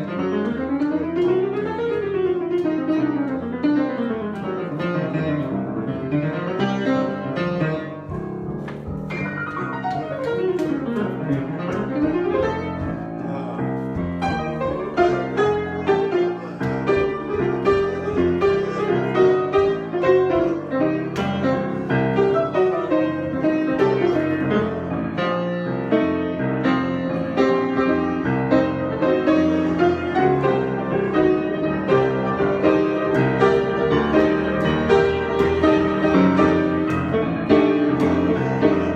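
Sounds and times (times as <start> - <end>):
solo piano: 0.0 - 38.9.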